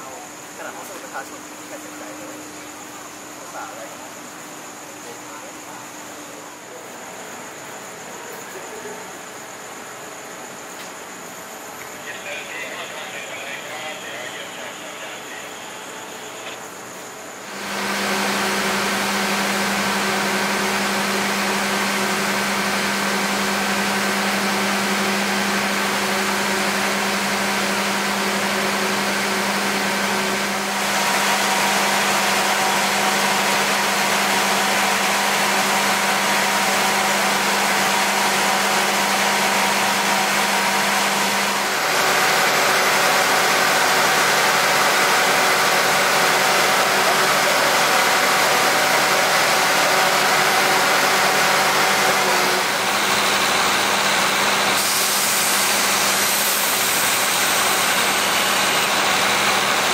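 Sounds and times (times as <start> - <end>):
diesel train engine idling: 0.0 - 59.9.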